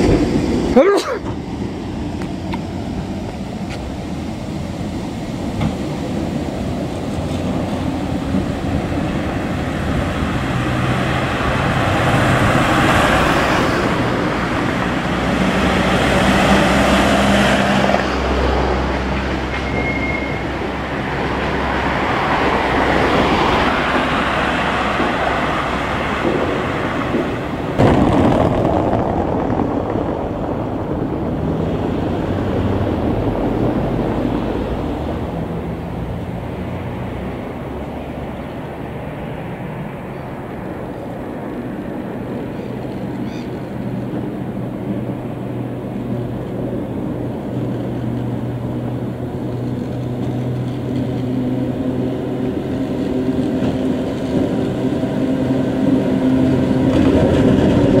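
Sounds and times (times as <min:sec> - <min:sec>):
traffic rumble of trams: 0:00.0 - 0:58.0.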